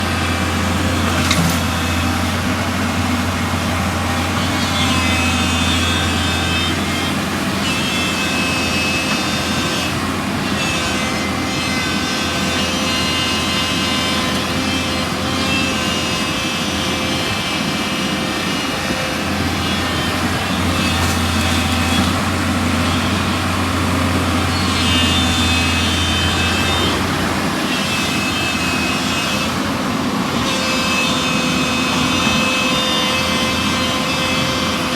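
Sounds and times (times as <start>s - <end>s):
excavator diesel hum: 0.0s - 34.9s.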